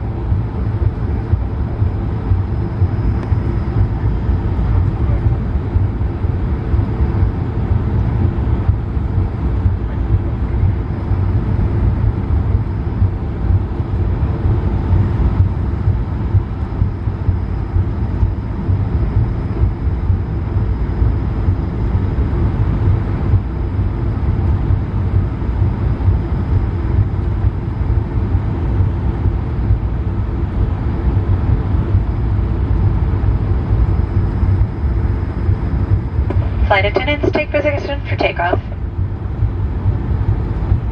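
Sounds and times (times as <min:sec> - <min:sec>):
airplane cabin engine rumble: 0:00.0 - 0:40.9
faint high whine: 0:00.0 - 0:40.9.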